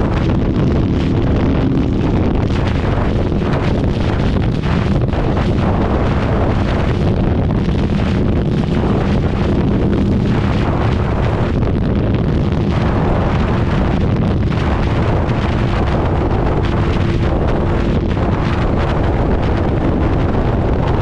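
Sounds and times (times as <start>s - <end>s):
motorcycle engine droning: 0.0s - 21.0s
wind buffeting microphone: 0.0s - 21.0s.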